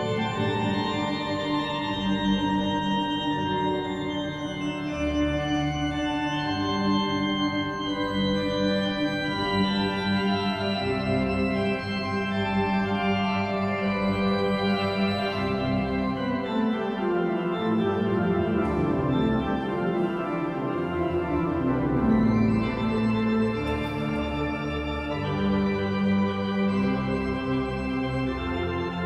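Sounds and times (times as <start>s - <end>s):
pipe organ playing chords: 0.0s - 29.0s.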